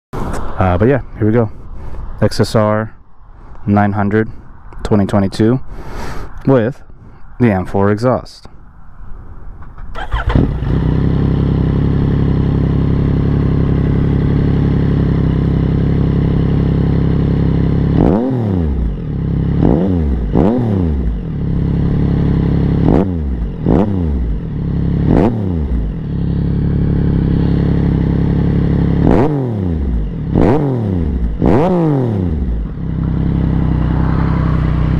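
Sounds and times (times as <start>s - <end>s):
motorcycle engine idling and revving: 6.5s - 34.9s.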